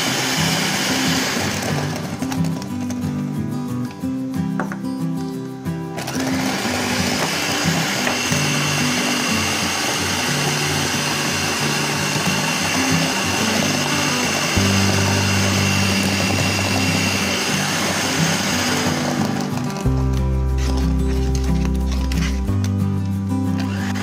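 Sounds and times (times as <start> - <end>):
electric hand mixer whining: 0.0 - 2.9, 6.0 - 22.5, 23.5 - 24.0.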